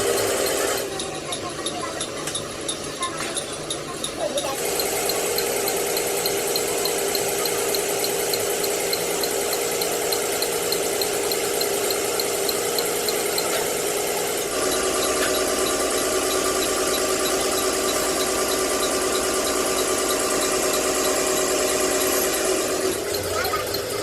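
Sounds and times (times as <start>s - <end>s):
light regular ticking: 0.0s - 24.0s
workshop machine motor running: 0.0s - 24.0s.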